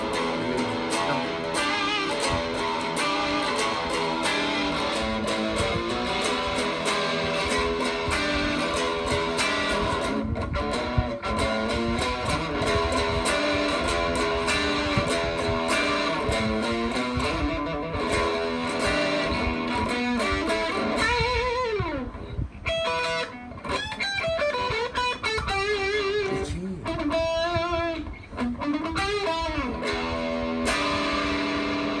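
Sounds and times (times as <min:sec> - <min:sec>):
electric guitar playing: 0:00.0 - 0:32.0.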